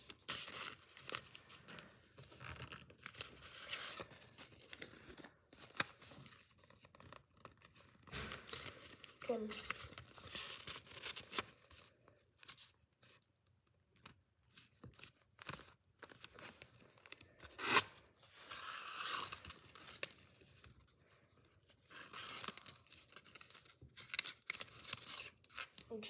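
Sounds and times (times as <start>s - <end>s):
paper rustling and crinkling: 0.0s - 13.3s, 14.0s - 26.0s.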